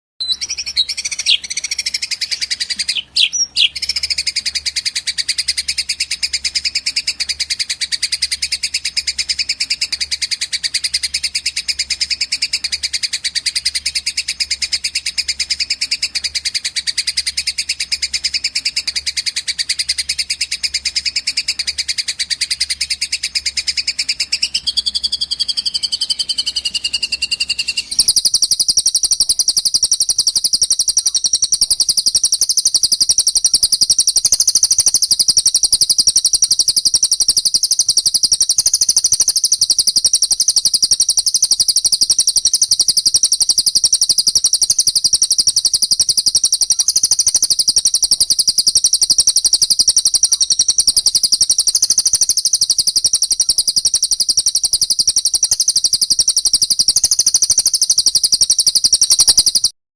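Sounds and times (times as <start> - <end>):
buzzy high bird song: 0.2 - 59.8
songbird chattering trill: 0.2 - 59.8.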